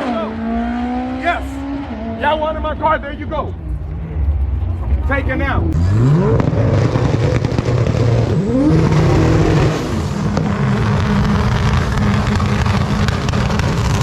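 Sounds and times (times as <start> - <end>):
racing car engine revving: 0.0 - 14.0.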